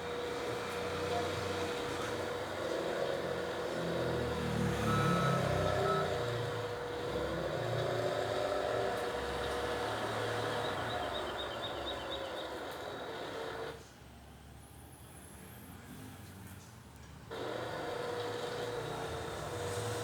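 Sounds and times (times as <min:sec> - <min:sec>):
engine running: 0:00.0 - 0:13.8, 0:17.3 - 0:20.0.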